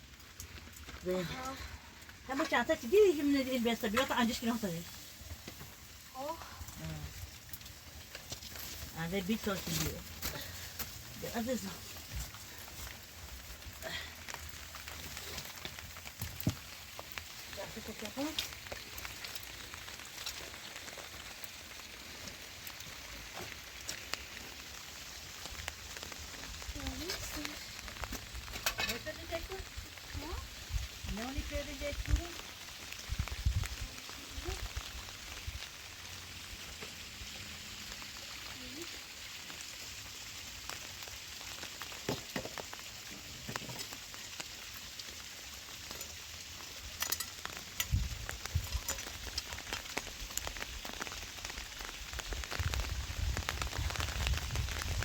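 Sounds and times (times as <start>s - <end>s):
steady rain falling: 0.0s - 55.0s
sharp drip-like ticks: 0.1s - 6.6s, 7.2s - 55.0s.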